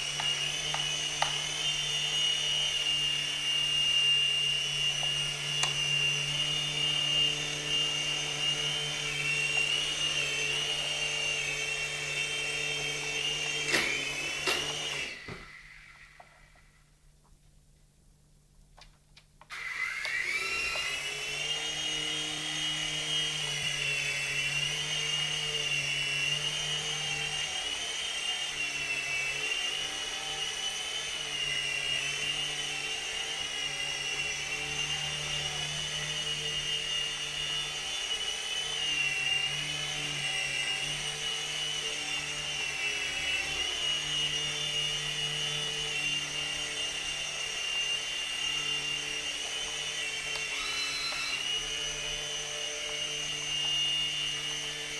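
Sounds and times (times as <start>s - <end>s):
toy helicopter motor whine: 0.0s - 16.9s, 19.5s - 54.9s.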